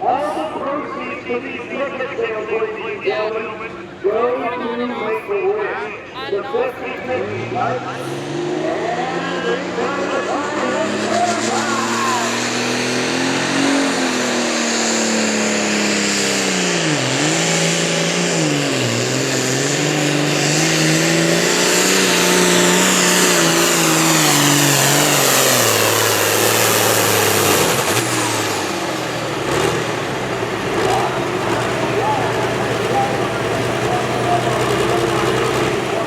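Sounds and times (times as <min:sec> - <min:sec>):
tractor engine at full throttle: 0:00.0 - 0:36.0.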